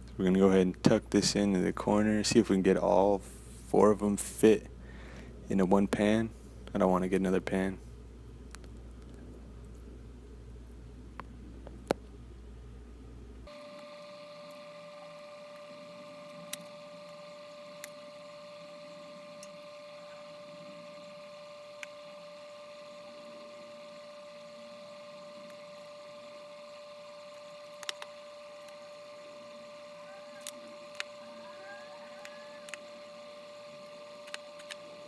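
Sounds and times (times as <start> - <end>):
faint high-pitched electrical whine: 0.0 - 35.0.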